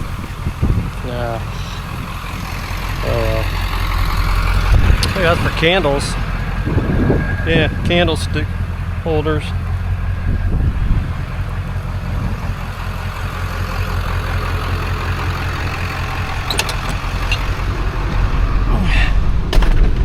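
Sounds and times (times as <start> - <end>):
vehicle engine humming: 0.0 - 19.7.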